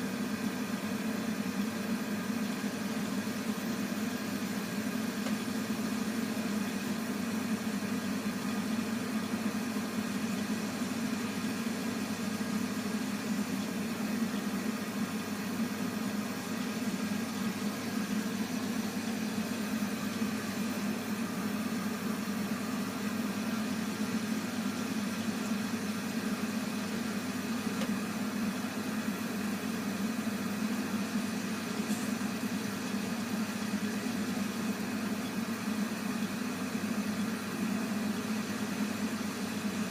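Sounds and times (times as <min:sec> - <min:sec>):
boiler humming: 0:00.0 - 0:39.9.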